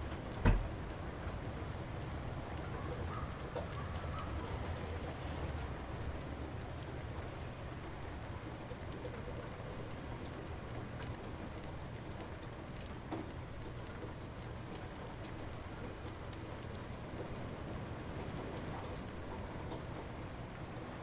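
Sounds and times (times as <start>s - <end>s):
light rain falling: 0.0s - 21.0s
raindrops pattering on surfaces: 0.0s - 21.0s.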